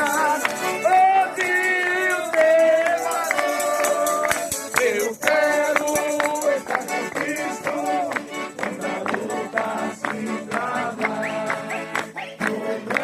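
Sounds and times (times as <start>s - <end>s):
lively accordion music: 0.0s - 13.0s.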